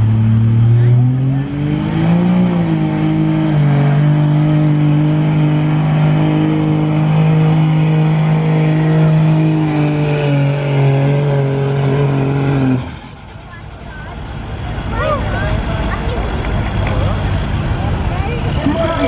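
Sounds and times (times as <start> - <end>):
diesel engine high-rpm drone: 0.0 - 19.0.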